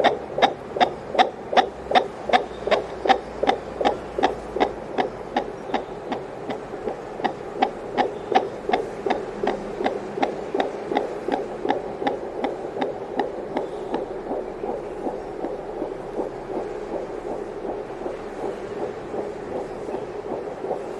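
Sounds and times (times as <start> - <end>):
fetal heartbeat whooshing pulses: 0.0 - 20.9
steady hum: 0.0 - 20.9.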